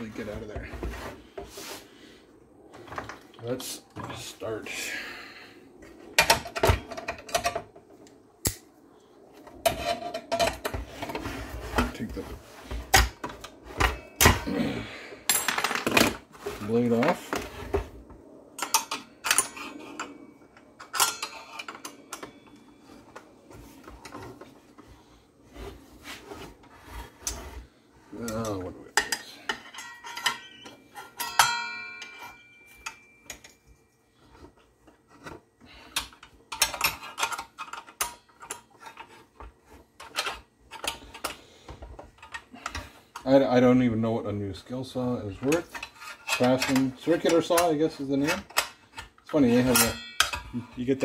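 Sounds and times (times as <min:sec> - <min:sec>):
metal tools clinking and scraping: 0:02.8 - 0:05.0, 0:05.9 - 0:07.9, 0:09.4 - 0:43.7, 0:44.9 - 0:51.0.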